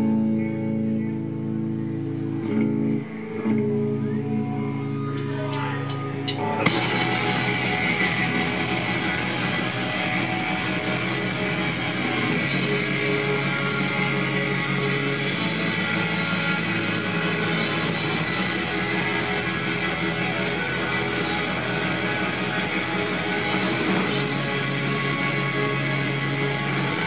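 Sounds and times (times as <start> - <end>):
black metal band playing live: 0.0 - 27.0.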